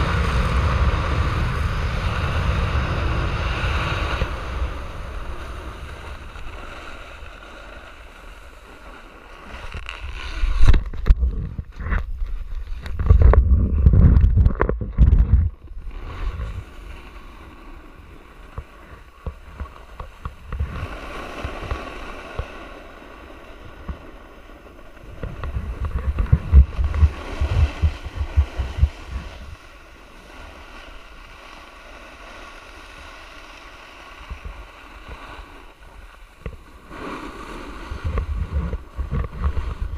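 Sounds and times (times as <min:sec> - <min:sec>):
wind buffeting microphone: 0:00.0 - 0:08.6, 0:09.7 - 0:31.2, 0:34.2 - 0:39.9
skis scraping over snow: 0:00.0 - 0:39.9.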